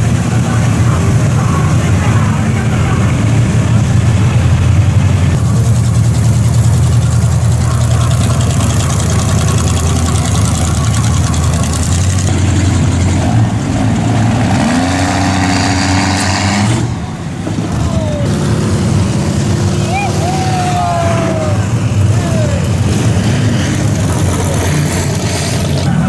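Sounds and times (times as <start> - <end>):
vehicle engine running and revving: 0.0 - 26.0.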